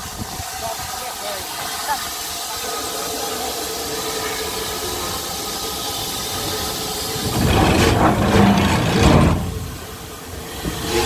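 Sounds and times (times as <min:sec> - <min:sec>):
locomotive steam hissing: 0:00.0 - 0:11.0.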